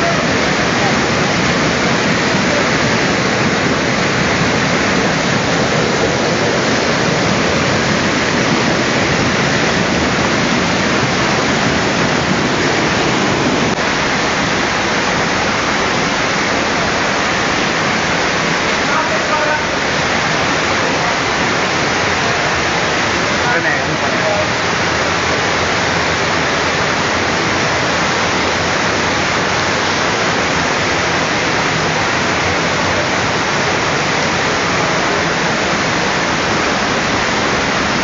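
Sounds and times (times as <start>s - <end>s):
whitewater rushing over boulders: 0.0s - 38.0s.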